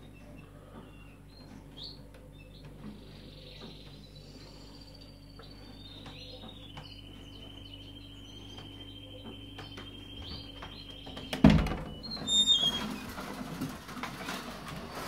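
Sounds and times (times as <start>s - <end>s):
canaries chirping: 0.0s - 13.5s.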